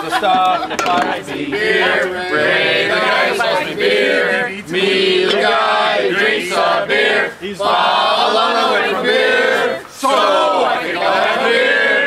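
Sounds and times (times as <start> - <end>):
group chanting in unison: 1.0 - 12.0.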